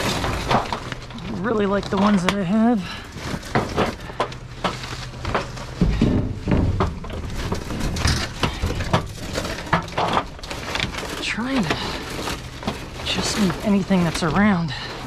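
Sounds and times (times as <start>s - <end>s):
heavy rumbling shove: 0.0s - 15.0s
junk knocking and scraping in dumpster: 0.0s - 15.0s.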